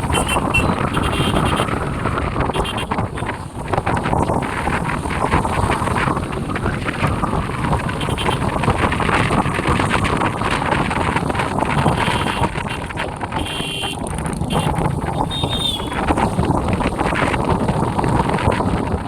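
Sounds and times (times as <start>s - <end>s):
motorcycle engine: 0.0s - 18.2s
road noise: 0.0s - 19.0s
wind rushing over microphone: 0.0s - 19.0s.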